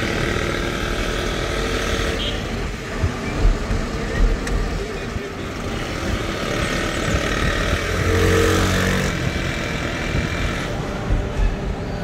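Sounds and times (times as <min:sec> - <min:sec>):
road noise inside a car: 0:00.0 - 0:12.0.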